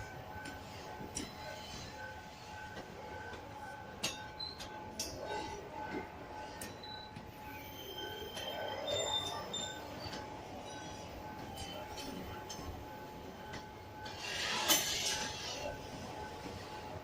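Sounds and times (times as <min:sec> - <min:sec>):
train wheels squealing on rail: 0:00.0 - 0:17.0.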